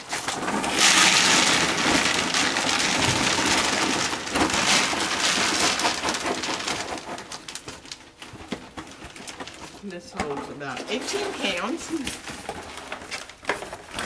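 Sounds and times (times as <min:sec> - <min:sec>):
dry cat food pouring: 0:00.0 - 0:14.0.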